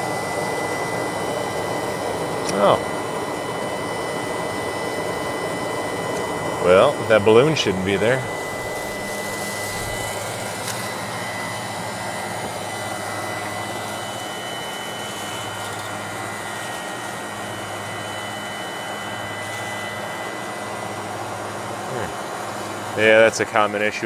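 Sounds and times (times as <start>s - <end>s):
condenser fan motors humming: 0.0s - 24.0s.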